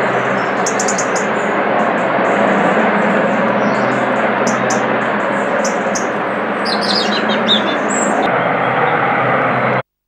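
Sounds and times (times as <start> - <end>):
small birds chirping: 0.0 - 2.5, 3.2 - 9.0
helicopter engine and rotors: 0.0 - 9.9.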